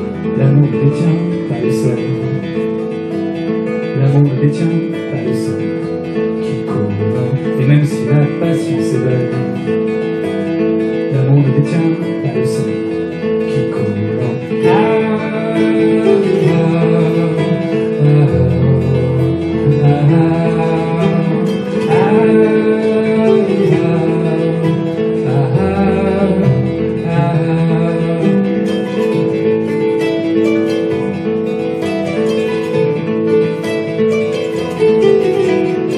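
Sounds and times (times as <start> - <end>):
acoustic guitar: 0.0 - 35.9
kora playing: 0.0 - 35.9
man singing: 0.0 - 35.9.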